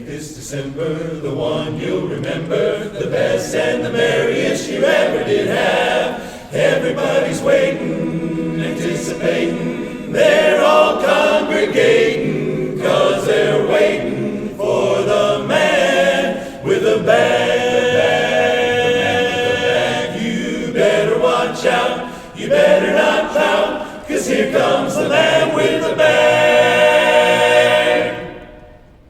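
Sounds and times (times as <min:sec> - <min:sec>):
men's chorus singing a cappella: 0:00.0 - 0:28.8.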